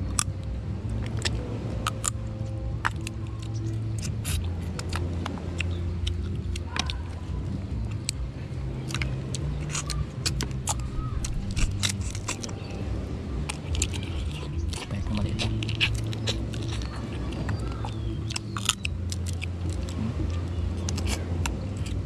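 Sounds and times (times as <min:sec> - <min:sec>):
crab shells cracking: 0:00.0 - 0:00.4, 0:01.0 - 0:07.2, 0:08.8 - 0:12.8, 0:13.4 - 0:22.0
low engine-like drone: 0:00.0 - 0:22.0.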